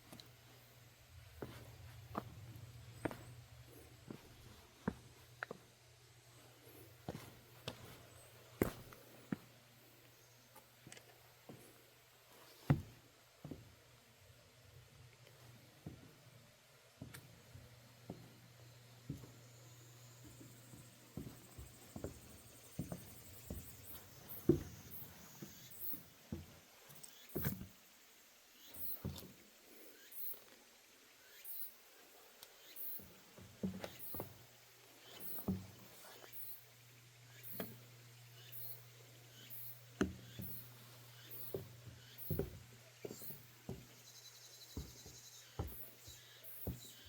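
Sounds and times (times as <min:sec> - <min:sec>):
footsteps on wooden deck: 0:00.1 - 0:05.8, 0:06.4 - 0:10.1, 0:10.8 - 0:13.8, 0:15.4 - 0:16.4, 0:17.0 - 0:27.8, 0:28.8 - 0:29.5, 0:32.8 - 0:47.0.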